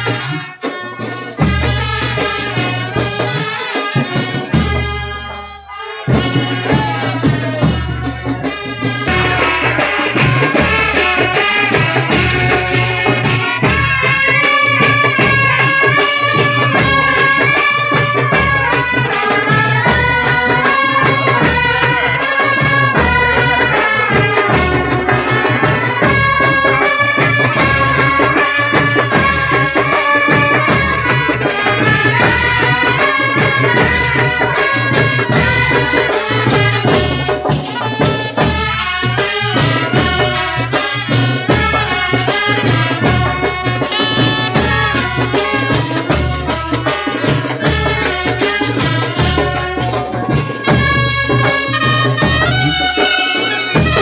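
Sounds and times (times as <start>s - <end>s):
procession music melody: 0.0s - 54.0s
steady drum rhythm: 0.0s - 54.0s.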